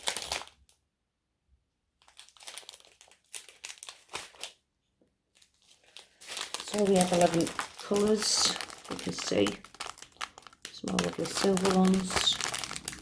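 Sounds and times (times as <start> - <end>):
plastic packaging crinkling: 0.0 - 0.7, 2.0 - 4.6, 5.3 - 13.0.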